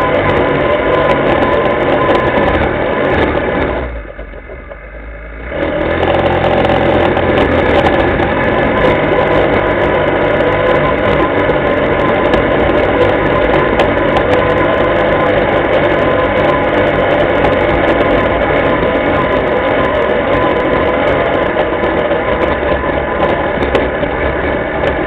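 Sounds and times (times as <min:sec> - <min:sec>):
quad bike engine running: 0:00.0 - 0:25.0.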